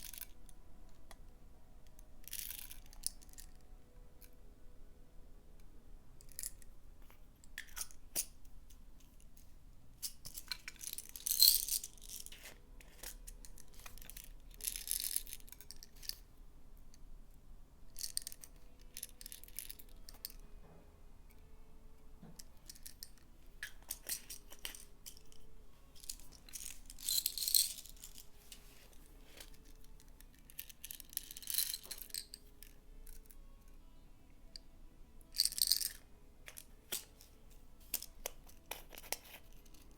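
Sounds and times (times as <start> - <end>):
faint background music: 0.0 - 39.9.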